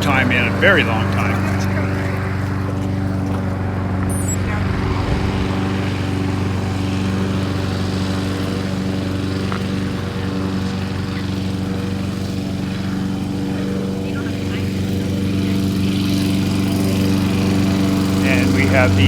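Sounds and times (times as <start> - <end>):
vehicle engine drone: 0.0 - 19.0.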